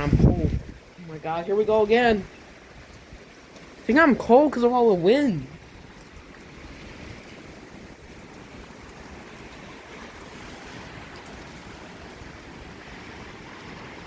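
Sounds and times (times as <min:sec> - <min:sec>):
wind rumbling on microphone: 0:00.0 - 0:04.0, 0:05.4 - 0:14.0
heavy rain: 0:00.0 - 0:14.0.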